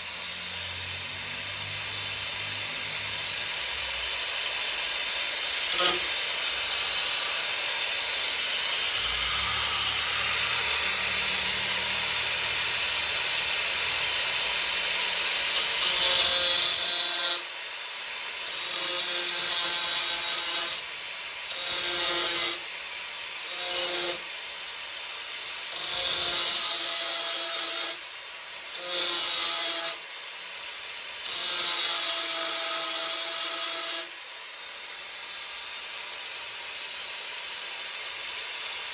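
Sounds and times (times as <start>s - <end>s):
power tool working on metal: 0.0s - 38.9s.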